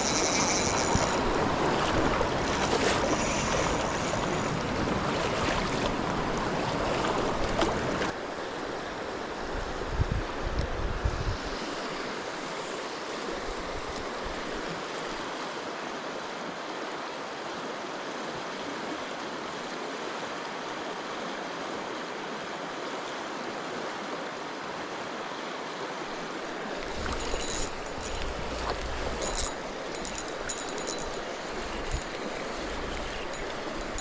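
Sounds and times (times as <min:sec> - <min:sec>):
river water rushing: 0:00.0 - 0:09.6, 0:11.5 - 0:34.0.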